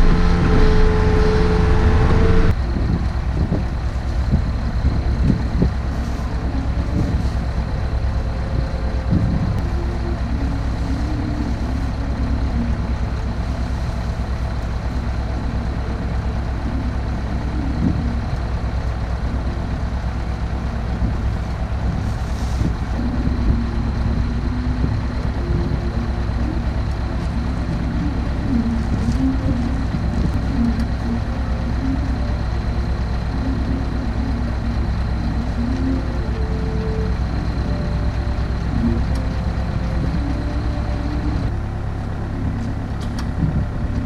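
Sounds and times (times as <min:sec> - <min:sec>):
excavator diesel engine: 0:00.0 - 0:44.0.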